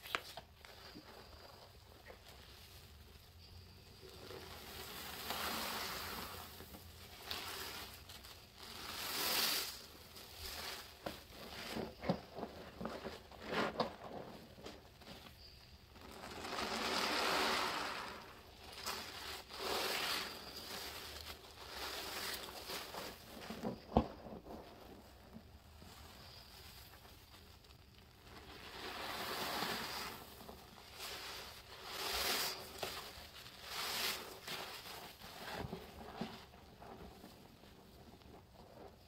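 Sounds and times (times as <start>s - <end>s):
gritty powder crunching: 0.0s - 39.0s
wet sponge squishing: 4.0s - 15.2s, 15.9s - 39.0s.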